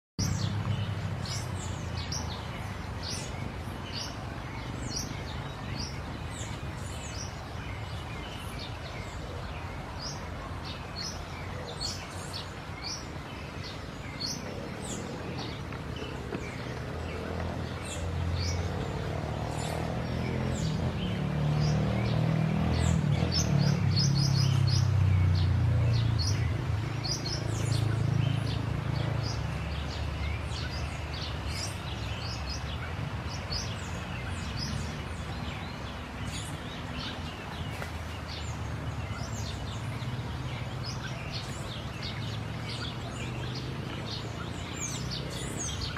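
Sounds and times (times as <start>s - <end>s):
small birds chirping: 0.2s - 45.9s.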